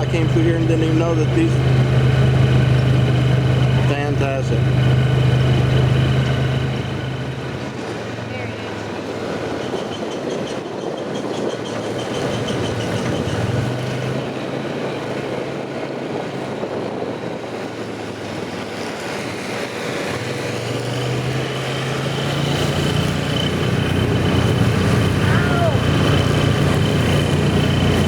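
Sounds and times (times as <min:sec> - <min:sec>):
small engine humming: 0:00.0 - 0:09.8, 0:10.7 - 0:28.0
continuous rushing noise: 0:00.0 - 0:28.0.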